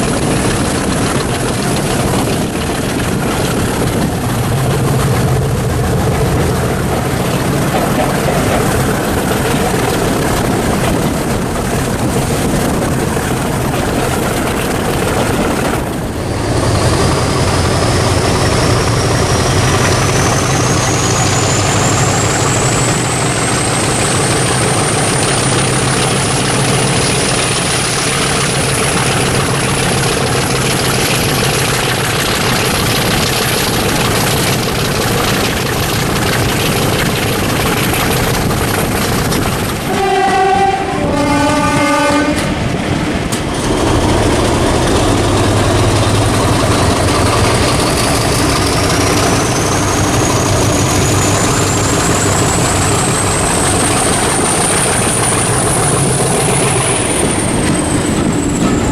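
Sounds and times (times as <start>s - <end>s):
diesel locomotive engine running: 0.0s - 58.9s.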